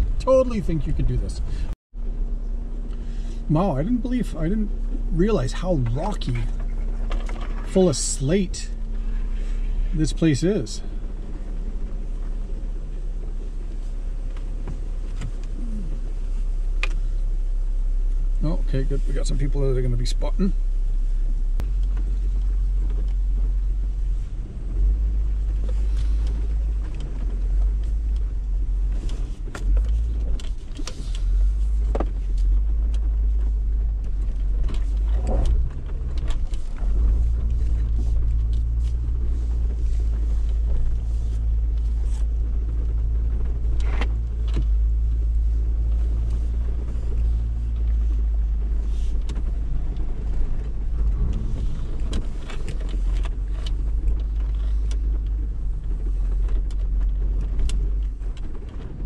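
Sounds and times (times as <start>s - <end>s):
engine low rumble: 0.0s - 59.0s.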